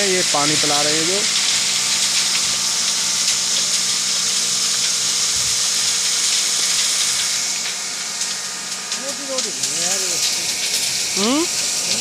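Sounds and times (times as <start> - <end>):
water spraying from hose: 0.0 - 12.0.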